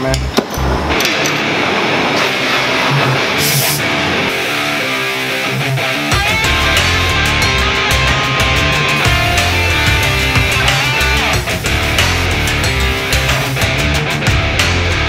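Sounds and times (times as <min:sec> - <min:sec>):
electric guitar music: 0:00.0 - 0:15.0
low bass part: 0:02.2 - 0:15.0.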